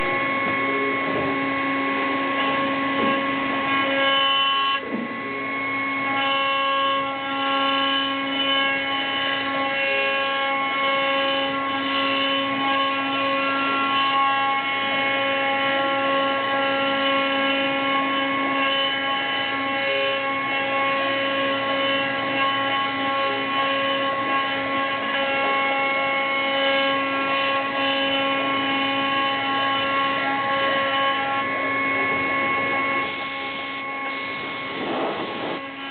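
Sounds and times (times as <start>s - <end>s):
milling machine spindle whine: 0.0s - 35.9s.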